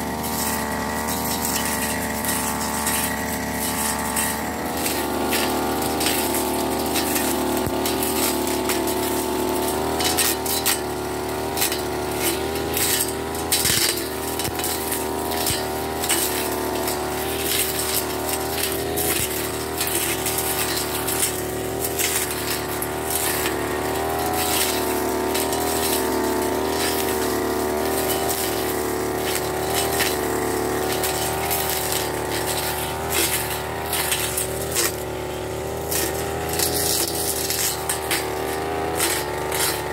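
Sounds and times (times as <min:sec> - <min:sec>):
brush cutter engine running: 0:00.0 - 0:39.9
cutting head ticking through grass: 0:00.2 - 0:39.9.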